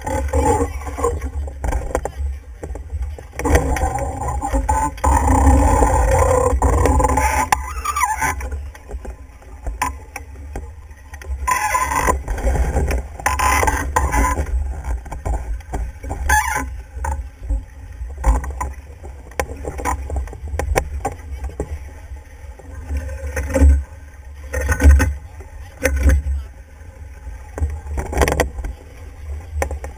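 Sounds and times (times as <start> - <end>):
water rushing along hull: 0.0 - 29.9.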